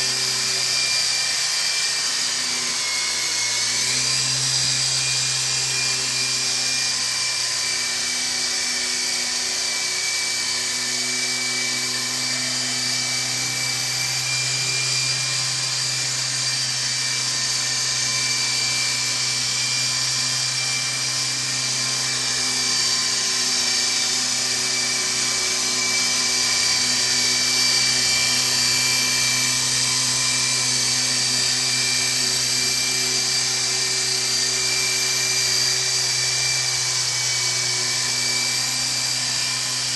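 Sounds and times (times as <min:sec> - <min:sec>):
rc helicopter rotor whine: 0:00.0 - 0:39.9.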